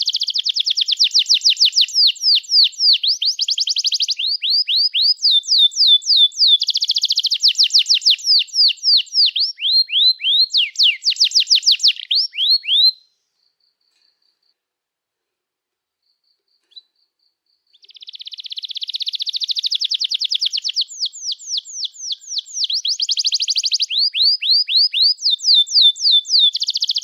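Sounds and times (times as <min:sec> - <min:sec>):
canary singing trills: 0:00.0 - 0:13.1, 0:17.6 - 0:27.0.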